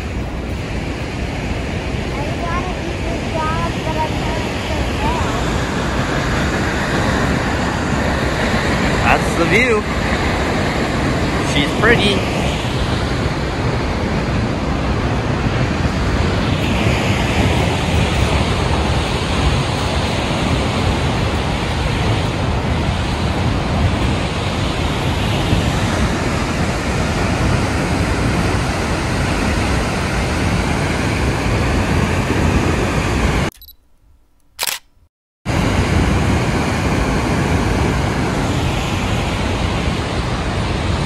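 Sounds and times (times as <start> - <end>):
large waterfall rushing: 0.0 - 33.4, 35.5 - 41.0.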